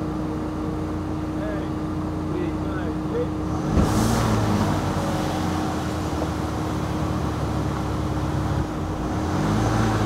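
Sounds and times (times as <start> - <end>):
van engine running and revving: 0.0 - 10.0.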